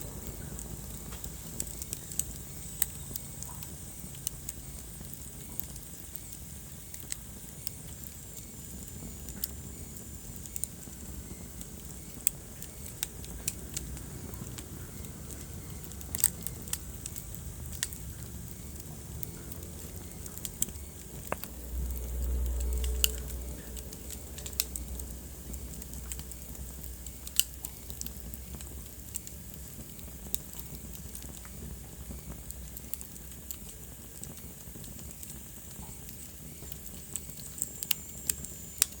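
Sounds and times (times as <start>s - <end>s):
low rumble of flames: 0.0s - 39.0s
wood fire crackling: 0.0s - 39.0s.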